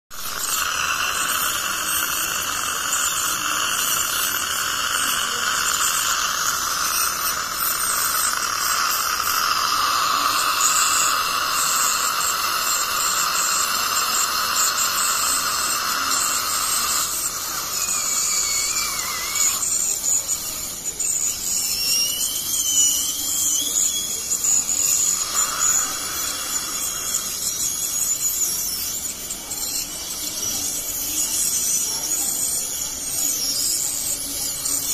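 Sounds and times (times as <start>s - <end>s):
dental scaler hiss and whine: 0.1s - 34.9s
wavering squeal: 0.2s - 34.9s.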